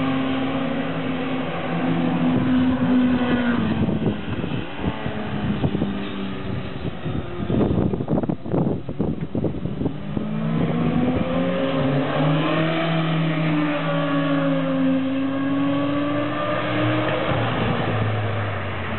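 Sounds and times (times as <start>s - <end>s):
motorcycle engines passing: 0.0s - 18.9s.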